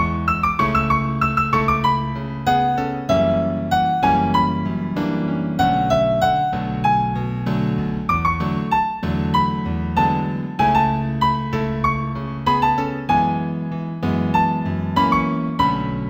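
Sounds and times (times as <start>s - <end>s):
gentle piano piece: 0.0s - 16.0s.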